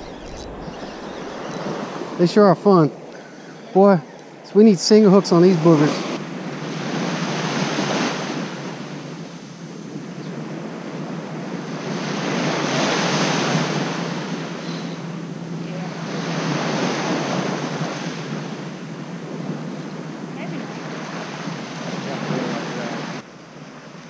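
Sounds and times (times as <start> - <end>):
surf washing up a sand beach: 0.0 - 24.0.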